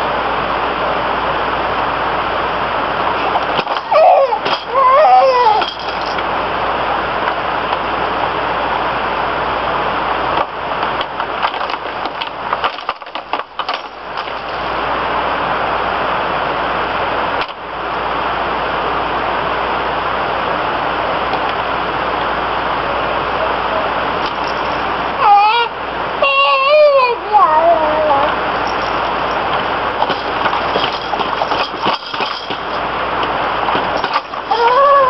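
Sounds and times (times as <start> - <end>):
crackly static hiss: 0.0 - 35.0.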